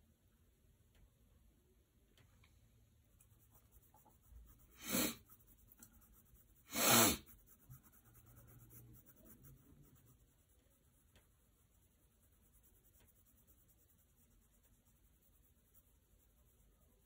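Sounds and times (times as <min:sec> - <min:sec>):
pencil scratching on paper: 0:03.1 - 0:17.0.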